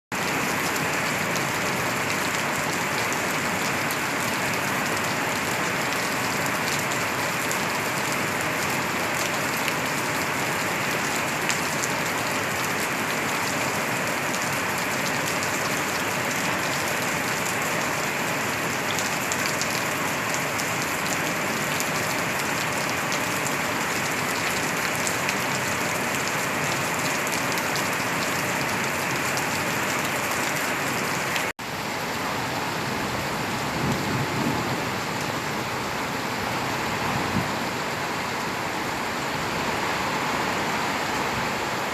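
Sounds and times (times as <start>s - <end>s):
steady rain falling: 0.1s - 41.9s.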